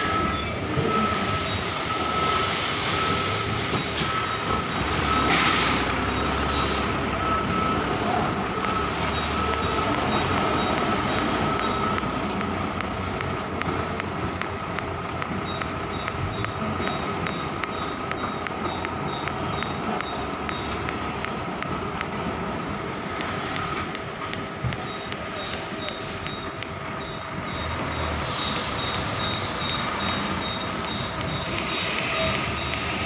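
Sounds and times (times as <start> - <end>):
diesel truck engines running: 0.0 - 33.0
light regular ticking: 5.9 - 33.0.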